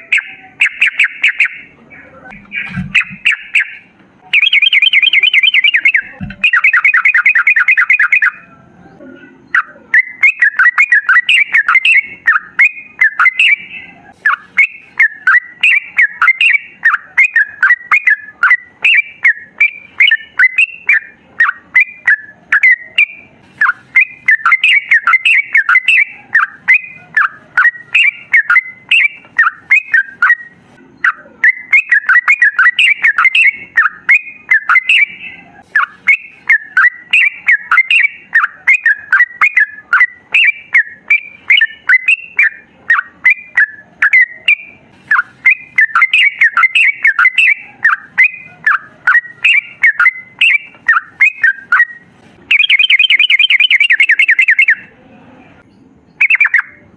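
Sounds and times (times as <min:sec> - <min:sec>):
bird chattering song: 0:00.0 - 0:54.9, 0:55.6 - 0:56.8.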